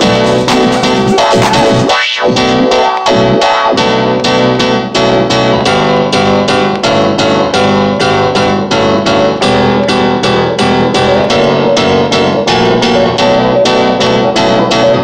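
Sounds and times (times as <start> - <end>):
techno track with chords and pulse: 0.0 - 15.0.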